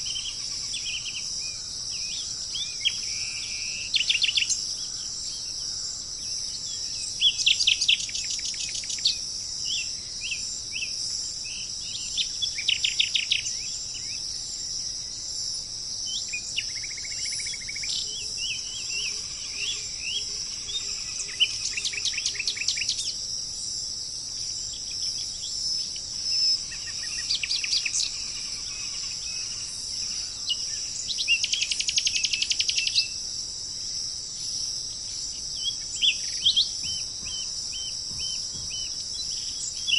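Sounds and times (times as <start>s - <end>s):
birds singing: 0.0s - 33.4s, 34.2s - 39.9s
insects chirring: 0.0s - 39.9s.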